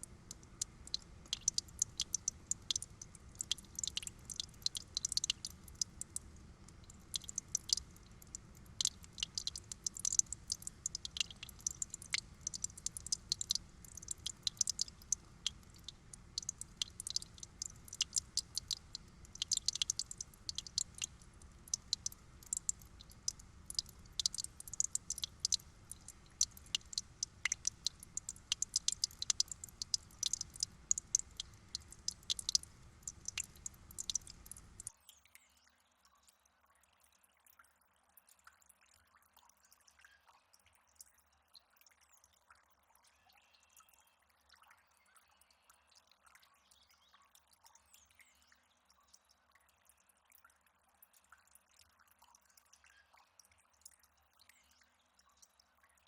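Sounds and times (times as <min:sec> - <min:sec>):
water trickling and dripping: 0:00.0 - 0:56.0.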